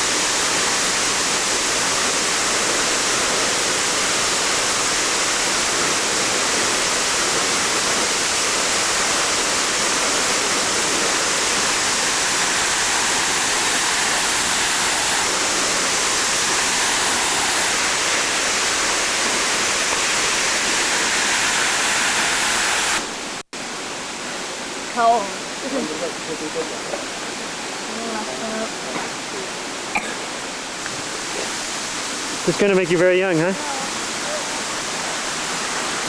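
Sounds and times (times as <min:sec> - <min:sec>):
water rushing: 0:00.0 - 0:36.0.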